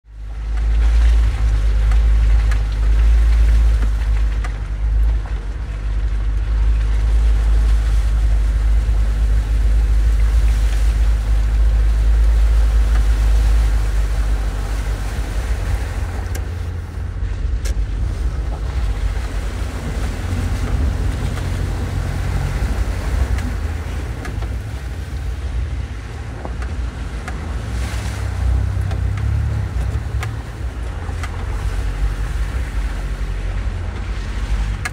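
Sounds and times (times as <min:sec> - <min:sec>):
vehicle engine and tyres droning: 0:00.0 - 0:34.9.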